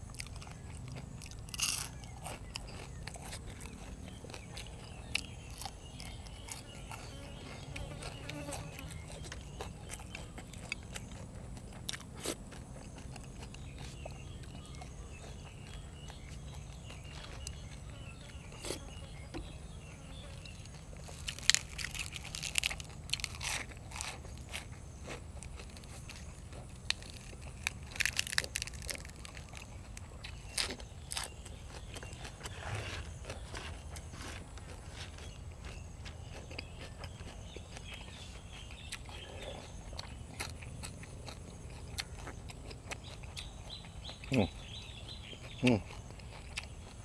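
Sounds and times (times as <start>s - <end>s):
crunching crunchy food: 0.0s - 47.0s.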